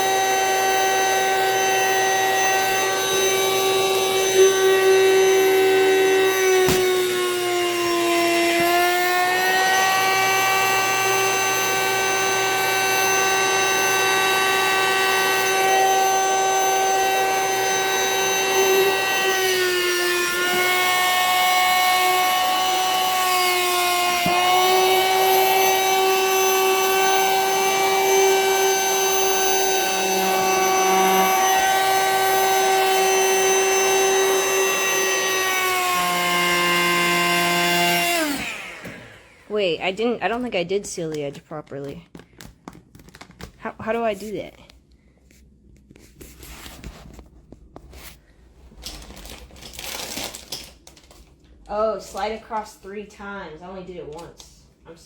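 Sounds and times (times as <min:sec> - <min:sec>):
vacuum cleaner whining: 0:00.0 - 0:41.9, 0:47.9 - 0:53.8.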